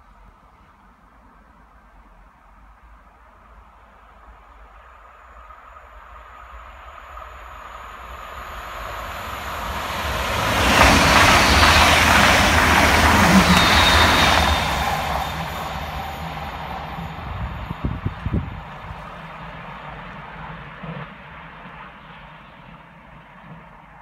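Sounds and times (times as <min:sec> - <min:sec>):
high-speed train passing: 0:00.1 - 0:24.0.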